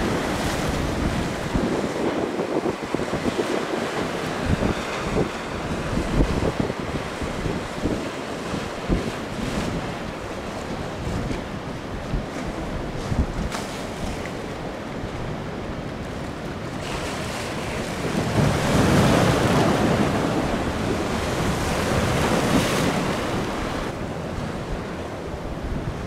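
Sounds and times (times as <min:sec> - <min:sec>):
ocean waves breaking: 0:00.0 - 0:26.0
wind buffeting microphone: 0:00.0 - 0:26.0.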